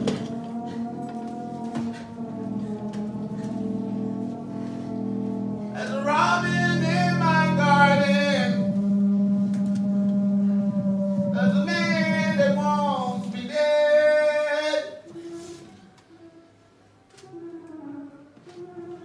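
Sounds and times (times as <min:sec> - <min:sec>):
wordless wavering singing: 0:00.0 - 0:16.8
low synthesizer drone: 0:00.0 - 0:18.2.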